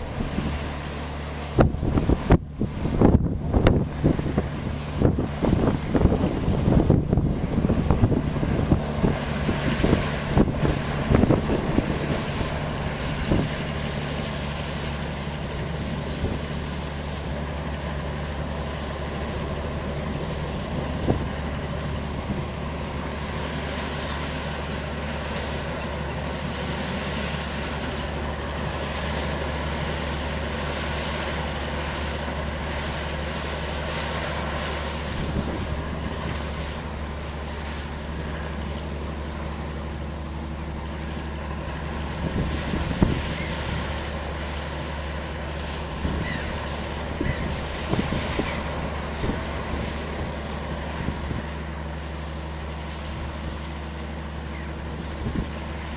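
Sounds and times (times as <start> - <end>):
wind buffeting microphone: 0.0 - 30.8, 33.7 - 55.9
ship engine drone: 0.0 - 55.9.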